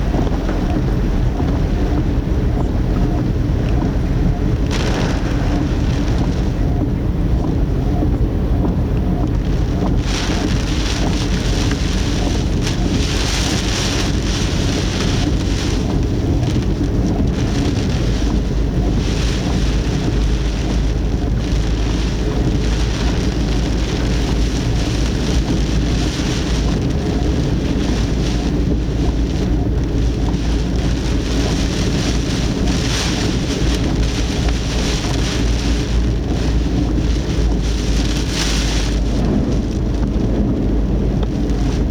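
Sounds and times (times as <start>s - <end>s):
rain hissing on car: 0.0s - 41.9s
wind buffeting rumble: 0.0s - 41.9s.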